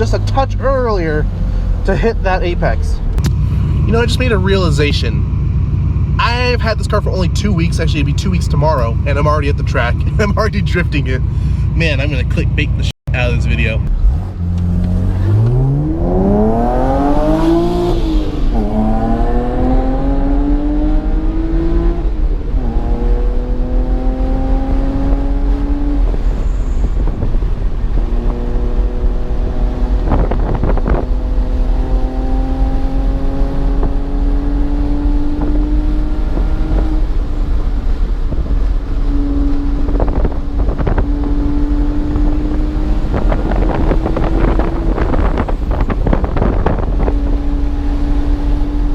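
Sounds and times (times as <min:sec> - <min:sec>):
car engine accelerating hard: 0:02.8 - 0:48.9.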